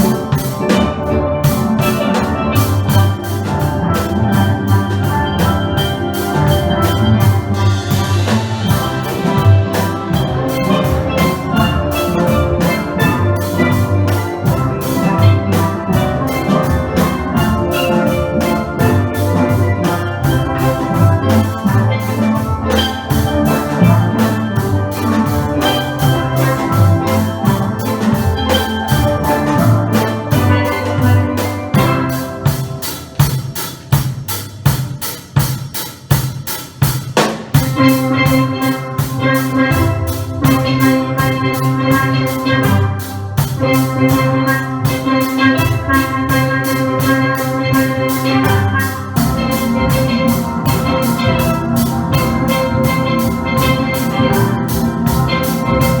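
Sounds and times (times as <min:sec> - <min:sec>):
drums: 0:00.0 - 0:56.0
steel pan band playing: 0:00.0 - 0:56.0.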